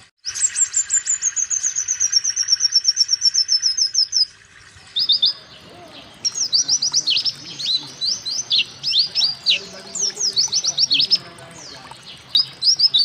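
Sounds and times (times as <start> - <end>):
bird singing trills and whistles: 0.2 - 13.0.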